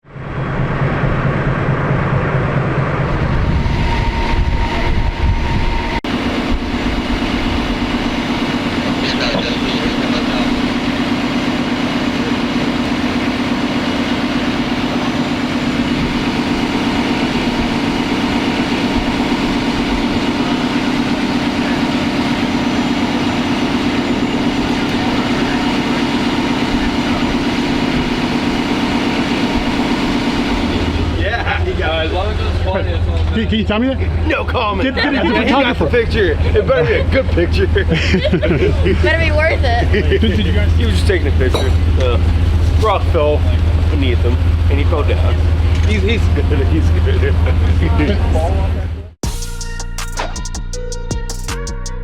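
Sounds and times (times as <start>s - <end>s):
heavy engine droning: 0.0s - 49.2s.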